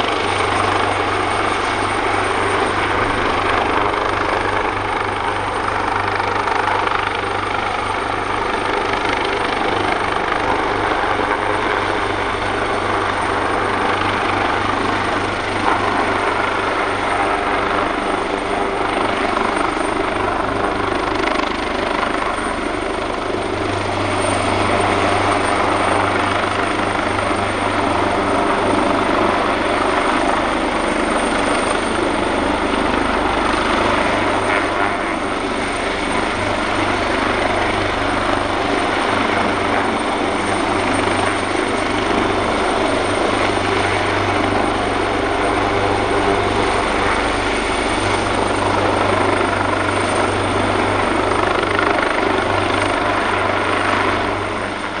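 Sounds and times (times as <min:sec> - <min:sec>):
helicopter rotor thrum: 0:00.0 - 0:55.0
high turbine whine: 0:00.0 - 0:55.0.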